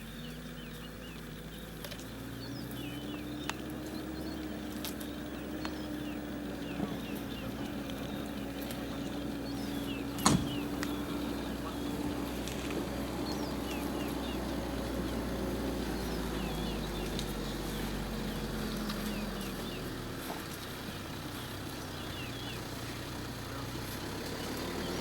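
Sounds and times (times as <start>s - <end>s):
small birds chirping: 0.0s - 25.0s
vehicle engine humming: 0.0s - 25.0s.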